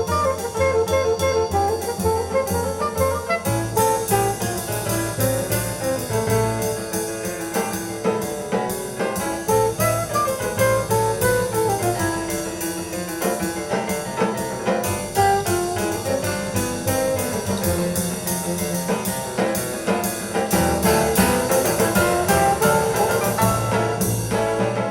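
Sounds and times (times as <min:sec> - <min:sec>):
jazz music with brass and piano: 0:00.0 - 0:24.9.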